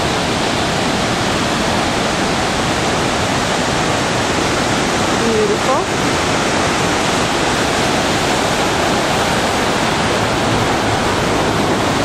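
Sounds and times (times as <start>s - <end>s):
river rapids: 0.0s - 12.0s
waterfall rushing: 0.0s - 12.0s.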